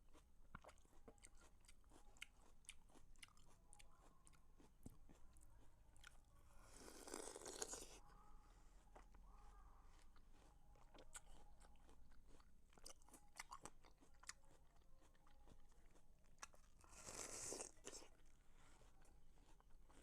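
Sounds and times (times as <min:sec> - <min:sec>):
watermelon chewing and crunching: 0:00.0 - 0:20.0.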